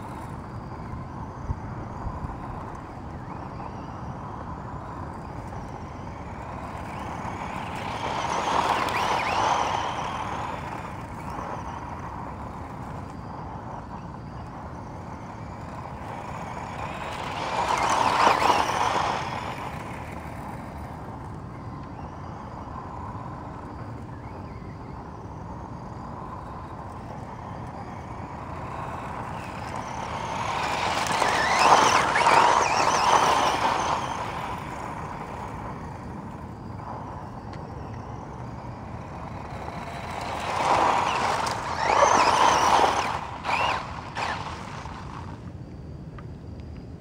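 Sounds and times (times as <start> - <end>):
toy car driving on gravel: 0.0 - 47.0.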